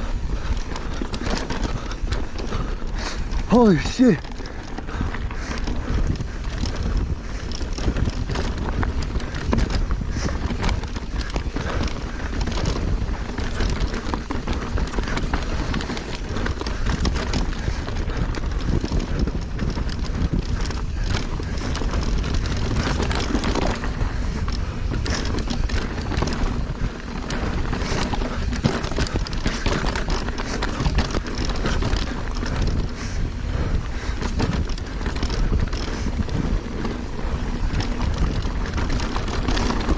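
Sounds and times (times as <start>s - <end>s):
bike tyres clattering over rocks: 0.0s - 39.9s
wind buffeting microphone: 0.0s - 39.9s.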